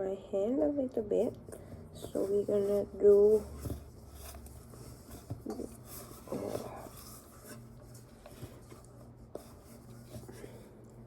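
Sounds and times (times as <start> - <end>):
hands kneading soft dough: 0.3 - 11.0.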